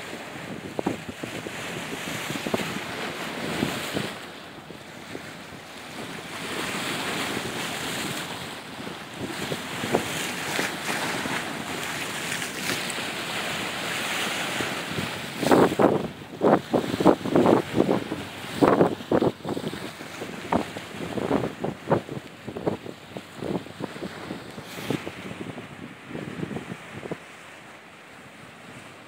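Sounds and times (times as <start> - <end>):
sea waves: 0.0 - 29.0
wind buffeting microphone: 0.0 - 29.0.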